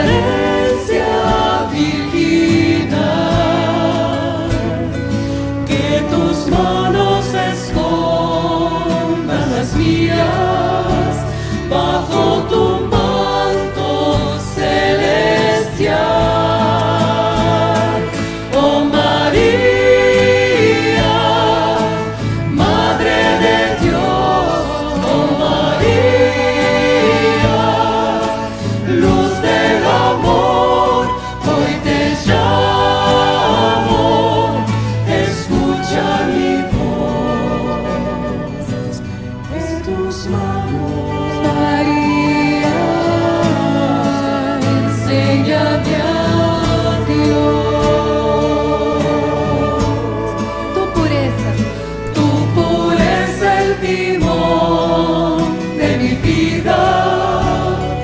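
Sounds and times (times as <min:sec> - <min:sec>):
choir singing a hymn: 0:00.0 - 0:58.0
instrumental accompaniment: 0:00.0 - 0:58.0.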